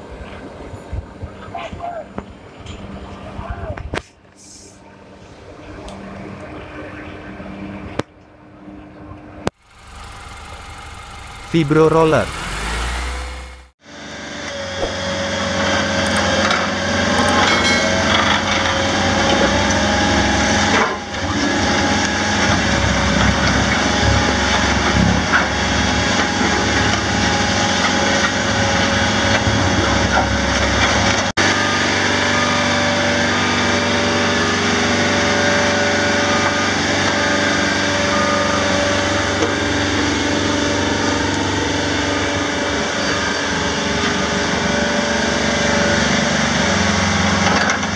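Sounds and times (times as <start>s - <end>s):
road roller engine drone: 0.0s - 47.9s.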